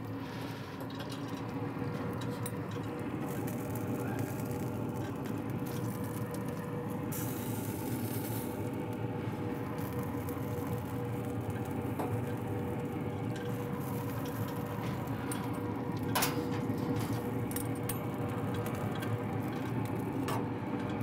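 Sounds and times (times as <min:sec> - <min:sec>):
pellet grill hum: 0:00.0 - 0:21.0.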